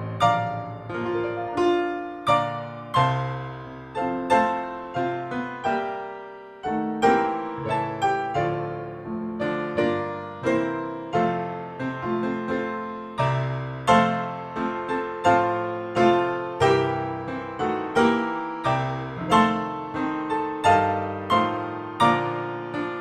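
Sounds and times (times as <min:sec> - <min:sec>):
slow solo piano: 0:00.0 - 0:23.0.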